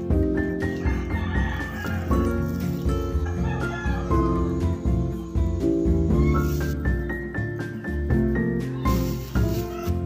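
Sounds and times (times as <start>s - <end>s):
soft lo-fi music: 0.0s - 10.0s.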